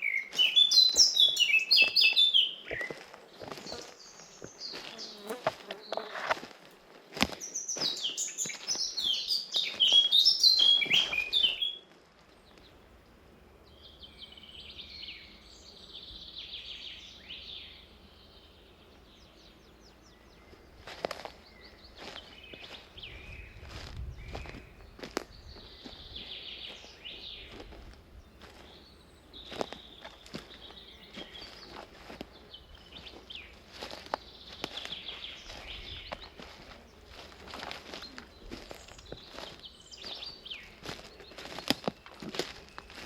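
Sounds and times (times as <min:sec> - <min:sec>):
birds chirping trills: 0:00.0 - 0:06.4, 0:07.0 - 0:43.0
faint bird chatter: 0:00.0 - 0:06.4, 0:07.1 - 0:12.8, 0:13.6 - 0:43.0
footsteps scuffing on path: 0:00.0 - 0:12.4, 0:20.5 - 0:43.0.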